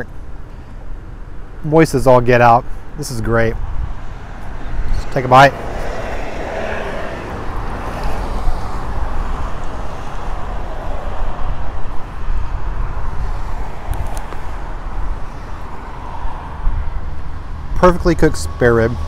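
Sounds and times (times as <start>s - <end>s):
road traffic rumble and hiss: 0.0s - 19.0s.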